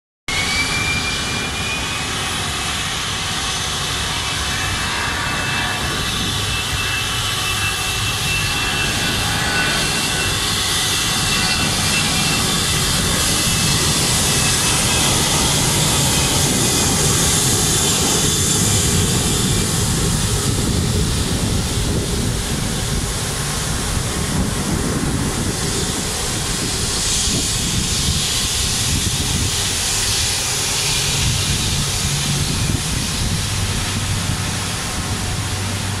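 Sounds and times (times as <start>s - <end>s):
jet engines whining at taxi power: 0.3s - 36.0s.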